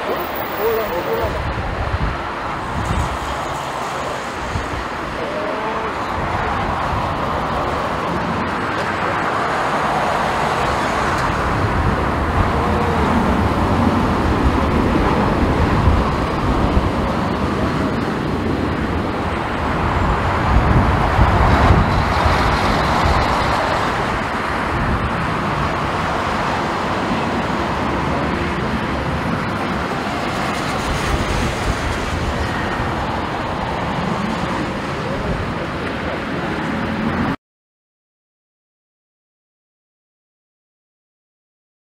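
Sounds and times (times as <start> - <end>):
jet engines rumbling: 0.0 - 37.4
wind buffeting microphone: 0.0 - 37.4.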